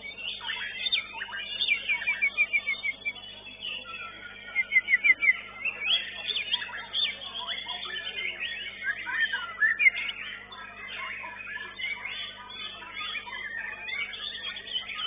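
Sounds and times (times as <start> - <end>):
birds whistling and chirping: 0.0 - 15.0.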